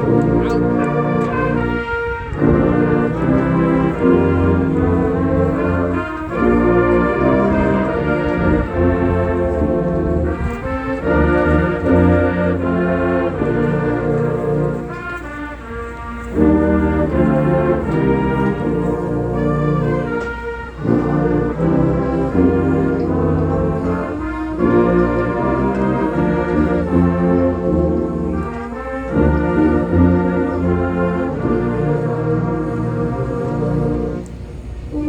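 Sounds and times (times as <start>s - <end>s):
brass band playing slow chords: 0.0s - 35.0s.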